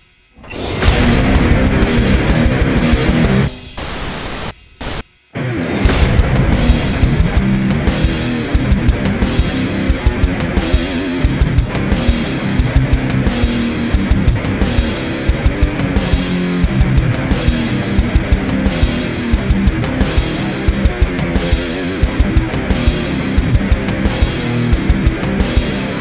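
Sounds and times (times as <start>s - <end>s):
heavy rock music: 0.4s - 26.0s.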